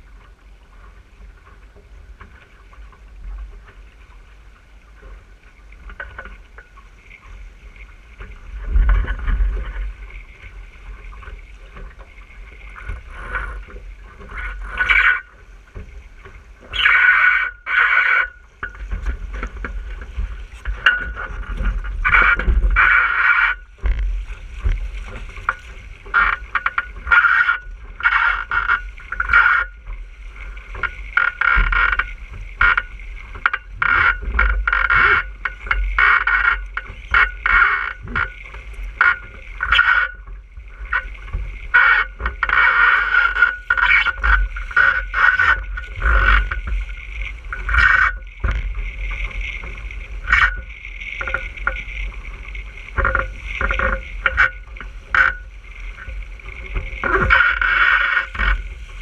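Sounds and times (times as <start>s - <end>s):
water splashing along boat hull: 0.0s - 59.0s.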